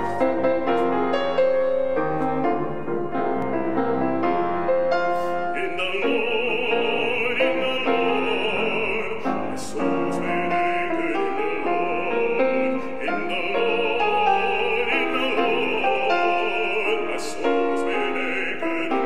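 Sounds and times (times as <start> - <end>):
man singing classical style: 0.0 - 3.6, 4.2 - 19.0
grand piano playing: 0.0 - 19.0.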